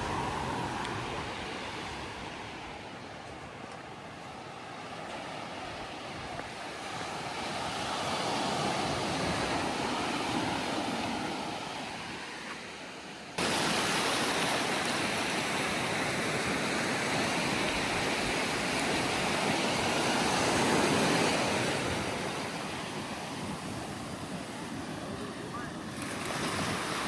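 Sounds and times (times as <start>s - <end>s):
ocean surf on a beach: 0.0s - 27.0s.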